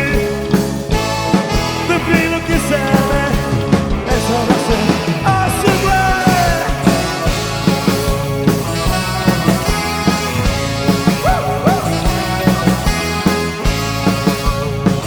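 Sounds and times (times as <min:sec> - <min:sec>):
rock band instrumental: 0:00.0 - 0:15.0.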